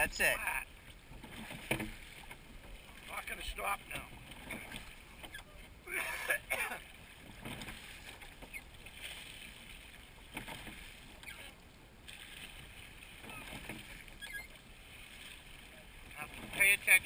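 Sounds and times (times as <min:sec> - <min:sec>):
oars swishing and splashing: 0:00.0 - 0:17.0.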